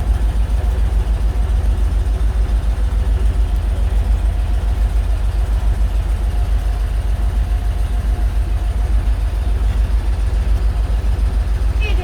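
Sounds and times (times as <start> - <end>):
heavy vehicle engine idling: 0.0 - 12.0.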